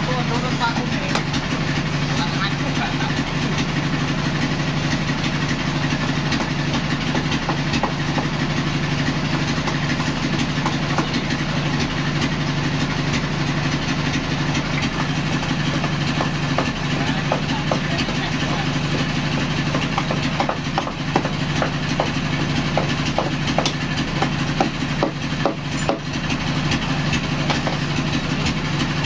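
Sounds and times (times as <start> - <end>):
engine idling hum: 0.0 - 29.0.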